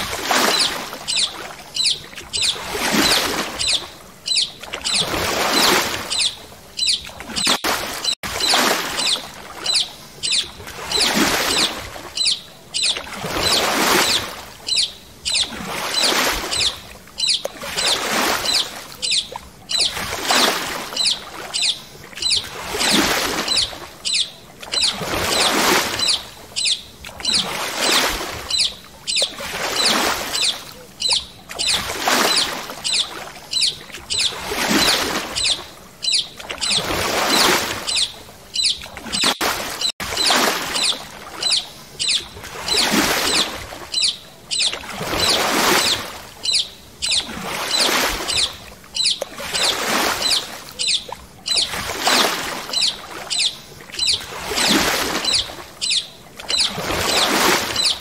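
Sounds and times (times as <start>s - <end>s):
paddle splashing in water: 0.0s - 58.0s.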